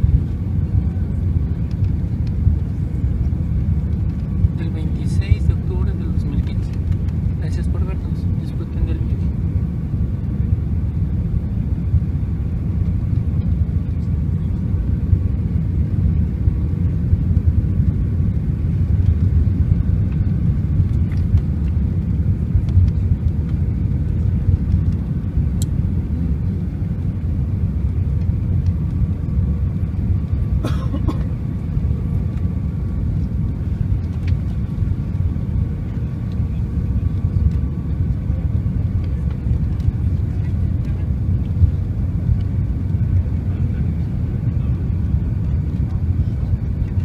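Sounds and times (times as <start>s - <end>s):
jet engines and airflow rumble: 0.0s - 47.0s.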